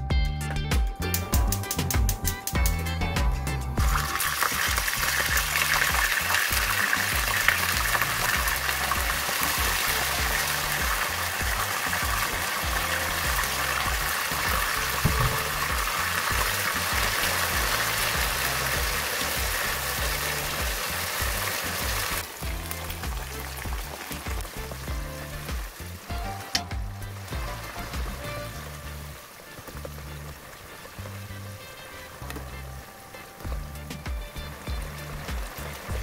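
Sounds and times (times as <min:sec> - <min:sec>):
background music with bass line: 0:00.0 - 0:36.0
pork sizzling in hot oil: 0:01.0 - 0:36.0.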